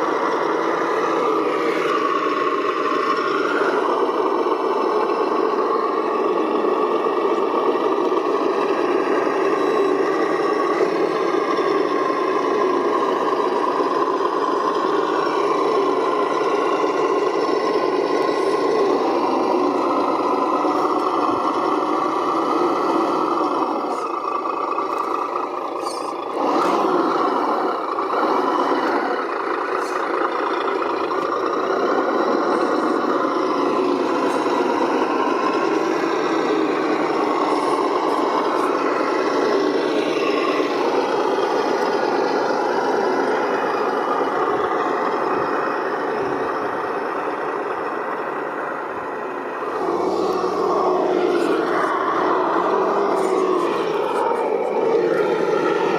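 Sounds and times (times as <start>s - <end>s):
simulated truck engine from speaker: 0.0s - 55.9s.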